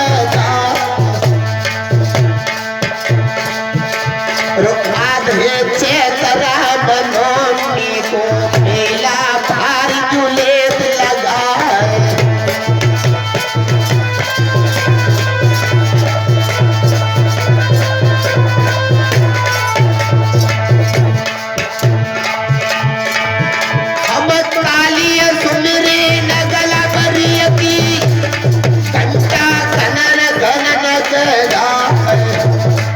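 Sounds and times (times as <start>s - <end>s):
hand drum rhythm: 0.0s - 32.9s.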